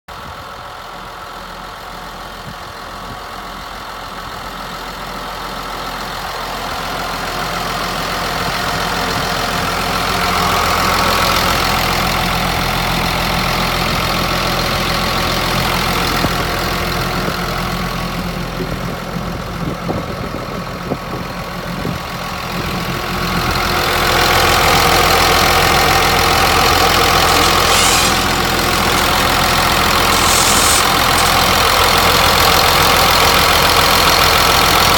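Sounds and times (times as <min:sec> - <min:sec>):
bulldozer diesel engine running: 0:00.1 - 0:34.9.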